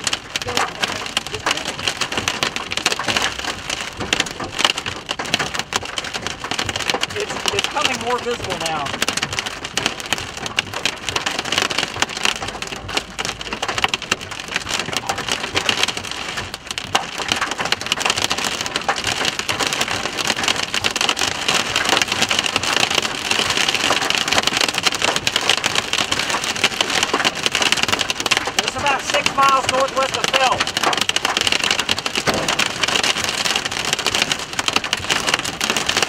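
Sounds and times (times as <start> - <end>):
heavy rain on vehicle roof: 0.0 - 36.0.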